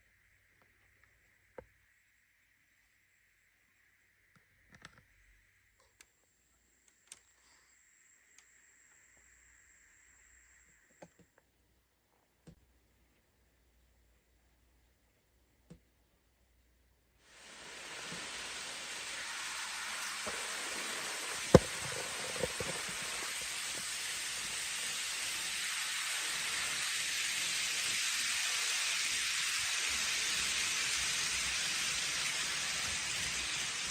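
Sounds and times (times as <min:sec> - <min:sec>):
steady hiss: 0:00.0 - 0:15.2, 0:17.1 - 0:33.9.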